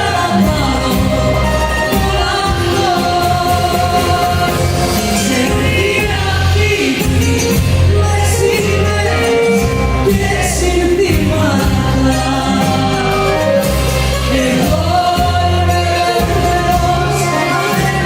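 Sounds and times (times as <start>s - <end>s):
band playing: 0.0s - 18.0s
sustained bass notes: 0.0s - 18.0s
woman singing: 0.0s - 18.0s.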